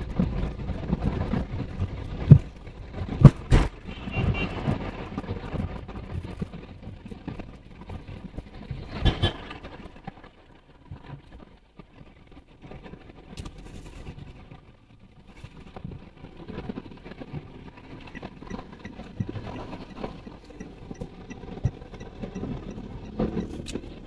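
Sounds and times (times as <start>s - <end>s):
car road and engine noise: 0.0s - 11.4s, 13.0s - 24.0s.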